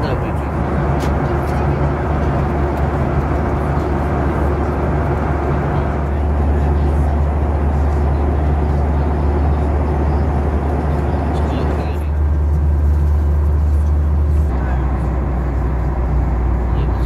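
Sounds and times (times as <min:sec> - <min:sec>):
airplane cabin roar: 0:00.0 - 0:17.0.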